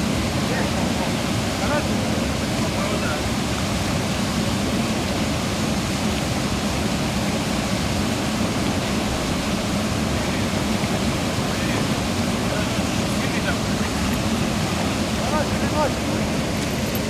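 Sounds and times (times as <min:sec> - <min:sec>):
rushing water: 0:00.0 - 0:17.0
wind: 0:00.0 - 0:17.0.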